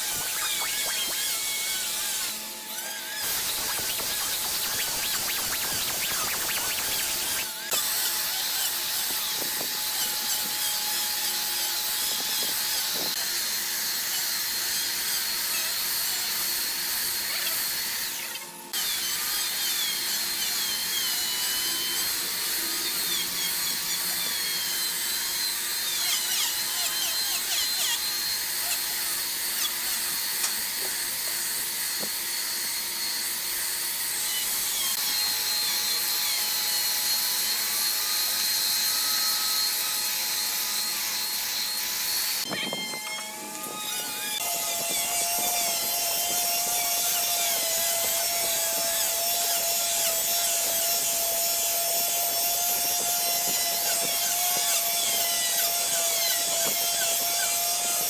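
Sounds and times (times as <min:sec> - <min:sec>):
belt sander: 0:00.0 - 0:58.0
random orbital sander: 0:00.0 - 0:58.0.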